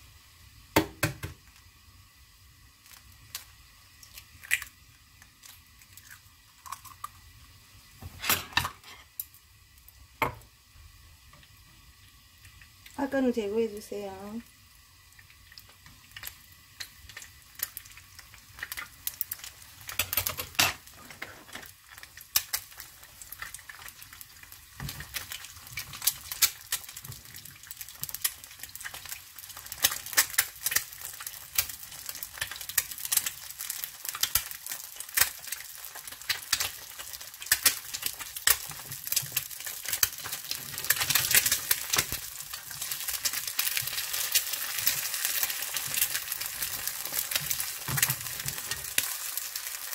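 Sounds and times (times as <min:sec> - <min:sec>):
egg sizzling in oil: 0:00.0 - 0:49.9.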